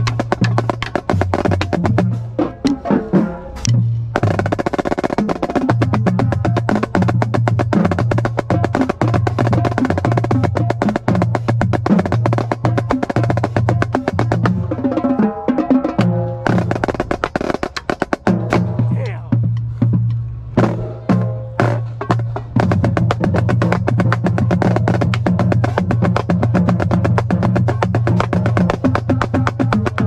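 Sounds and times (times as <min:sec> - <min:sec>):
low drum notes: 0:00.0 - 0:30.0
marching snare drum rolls: 0:00.0 - 0:30.0.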